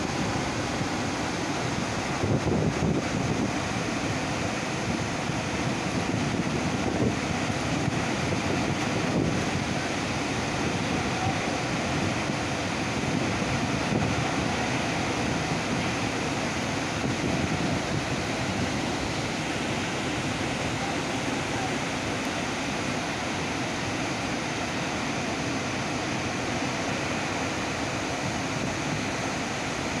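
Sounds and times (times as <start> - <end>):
rushing falling water: 0.0 - 30.0.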